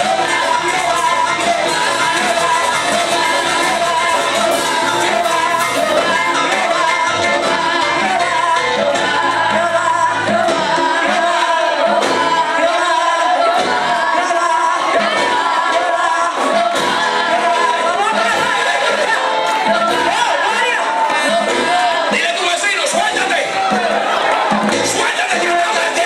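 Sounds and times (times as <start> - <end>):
worship music with singing: 0.0 - 26.0.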